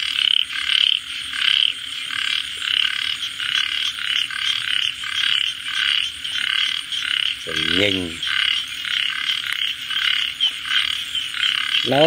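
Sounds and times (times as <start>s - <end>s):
chorus of frogs calling: 0.0s - 12.0s.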